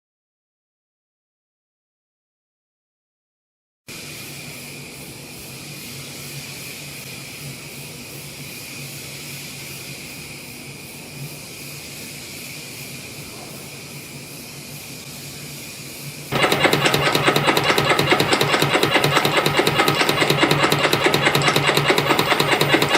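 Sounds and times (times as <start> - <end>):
machine hum and hiss: 3.9 - 22.9.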